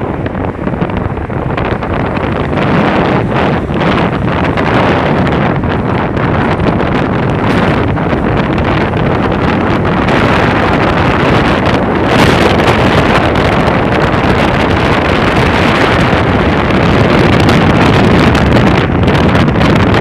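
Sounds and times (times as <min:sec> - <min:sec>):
car road noise: 0:00.0 - 0:20.0
wind rushing over microphone: 0:00.0 - 0:20.0.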